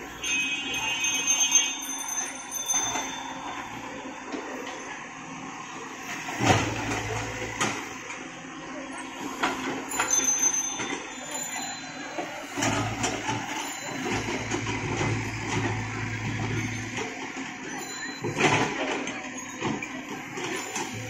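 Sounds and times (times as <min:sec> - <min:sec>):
excavator diesel engine drone: 0:00.0 - 0:21.0.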